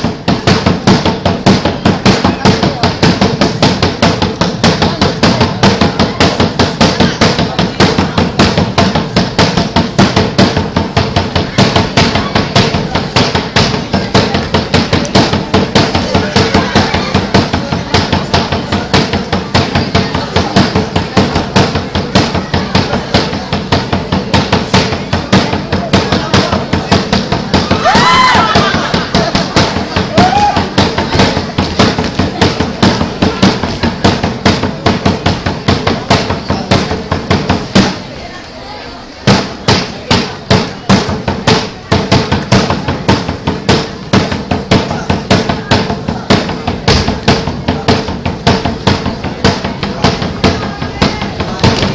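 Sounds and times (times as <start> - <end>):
fast drum strikes: 0.0 - 38.1, 39.2 - 51.9.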